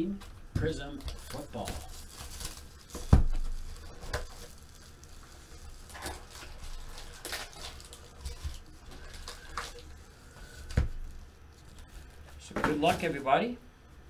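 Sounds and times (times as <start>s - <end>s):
foil packs crinkling: 0.6s - 13.4s.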